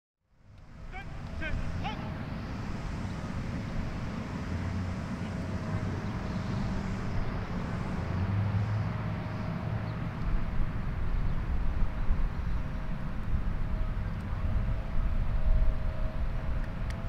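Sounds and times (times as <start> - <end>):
outdoor background rumble: 0.2 - 17.0
faint constant hum: 0.3 - 17.0.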